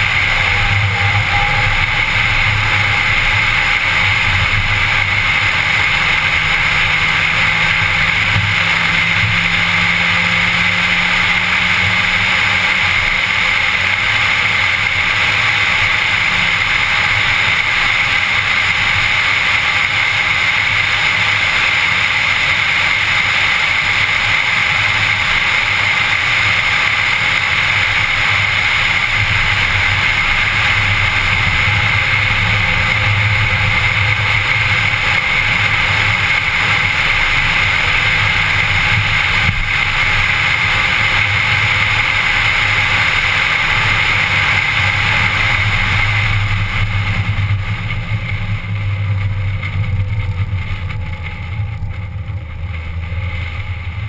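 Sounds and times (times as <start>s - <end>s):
low engine drone: 0.0s - 54.0s
road noise inside car: 0.0s - 54.0s.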